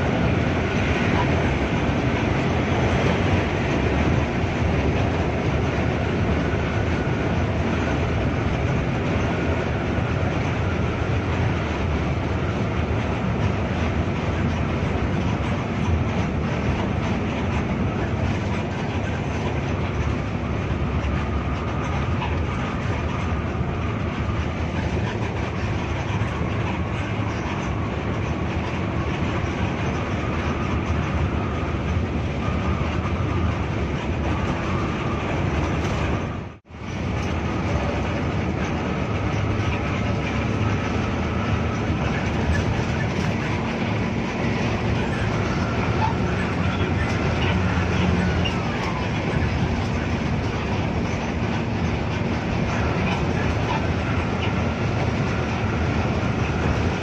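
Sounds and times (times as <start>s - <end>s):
bus engine drone: 0.0s - 57.0s
tyre and road noise: 0.0s - 57.0s.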